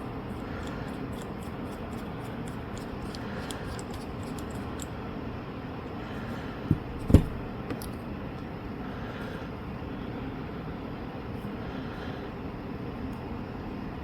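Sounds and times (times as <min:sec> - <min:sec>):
steady room hum: 0:00.0 - 0:14.0.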